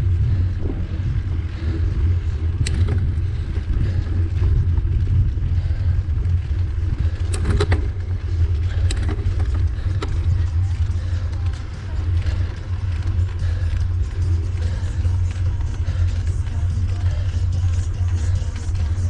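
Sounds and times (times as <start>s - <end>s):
bike rattling clicks: 0.0s - 19.0s
wind and road rumble: 0.0s - 19.0s.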